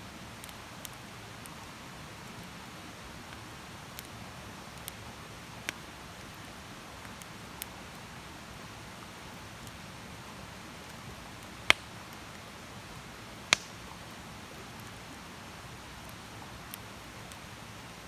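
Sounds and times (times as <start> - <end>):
campfire hissing and crackling: 0.0 - 18.0.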